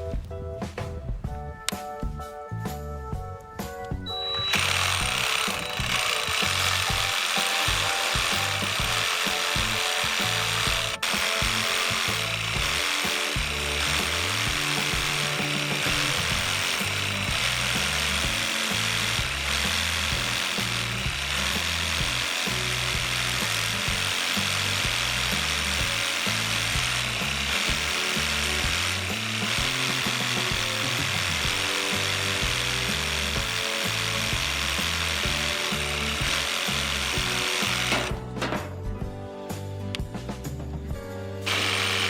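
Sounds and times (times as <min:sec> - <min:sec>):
background music with bass line: 0:00.0 - 0:42.0
reciprocating saw cutting wood: 0:04.2 - 0:38.8, 0:41.5 - 0:42.0.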